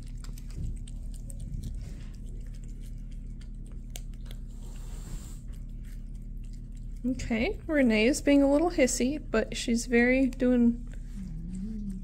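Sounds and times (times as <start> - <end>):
cats licking and lapping: 0.0 - 12.0.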